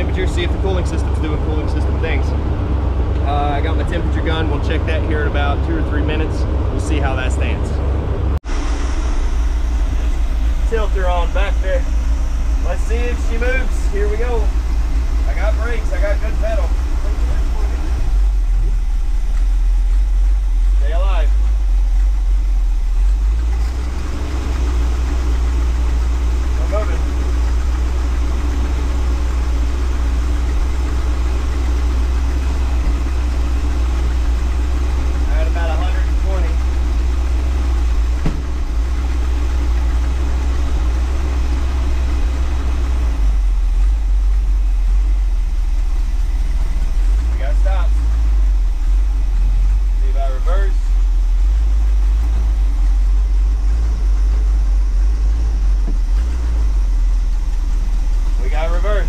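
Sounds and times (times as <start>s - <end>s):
motorhome engine running: 0.0s - 59.0s.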